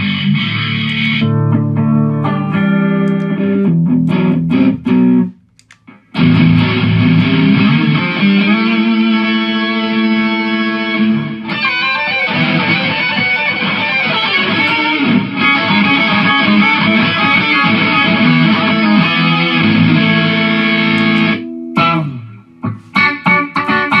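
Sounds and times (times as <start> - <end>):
electric guitar notes: 0.0 - 24.0.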